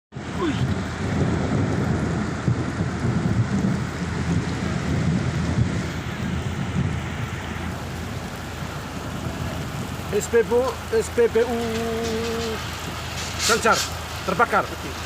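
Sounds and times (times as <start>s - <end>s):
heavy rain: 0.1s - 15.0s
low rumble of thunder: 0.2s - 13.4s.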